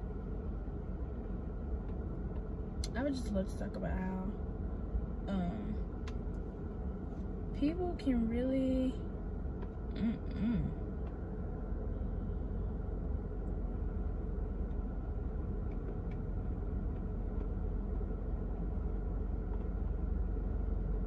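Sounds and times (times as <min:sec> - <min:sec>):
low rumble in car cabin: 0:00.0 - 0:21.0.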